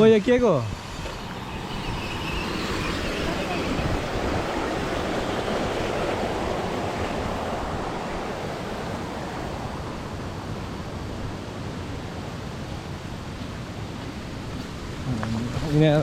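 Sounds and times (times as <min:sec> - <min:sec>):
steady rushing outdoor noise: 0:00.0 - 0:16.0.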